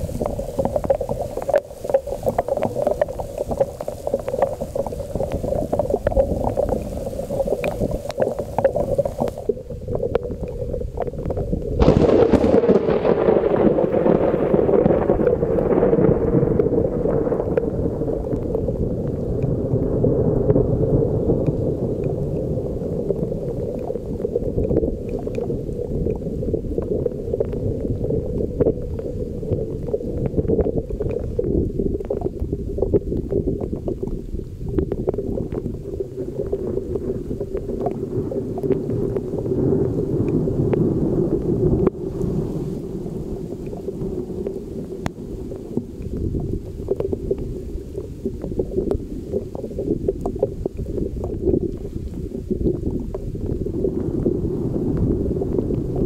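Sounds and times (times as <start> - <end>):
heavy rain: 0.0 - 56.0
raindrop ticks: 0.0 - 56.0
wind buffeting microphone: 0.0 - 56.0.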